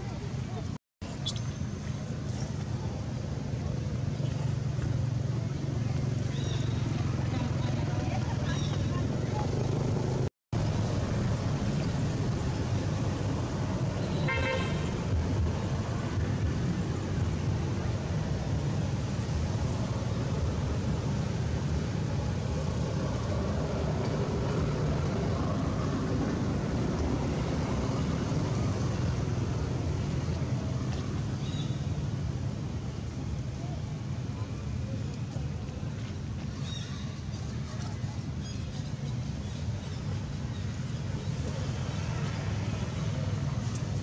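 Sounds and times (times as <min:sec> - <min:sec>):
low rumble of road traffic: 0:00.0 - 0:44.0.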